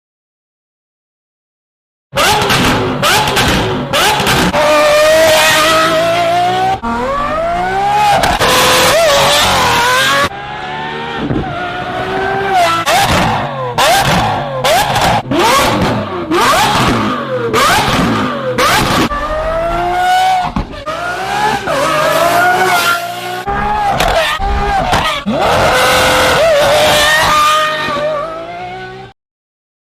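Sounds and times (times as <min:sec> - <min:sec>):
car engine revving hard: 0:02.2 - 0:29.1.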